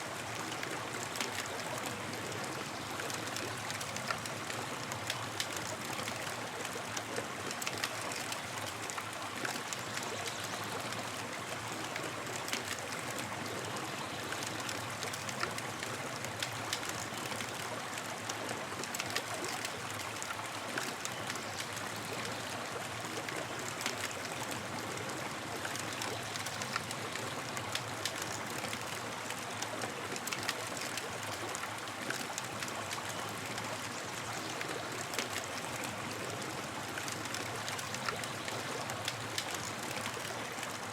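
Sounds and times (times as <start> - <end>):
campfire crackling and hissing: 0.0 - 40.9.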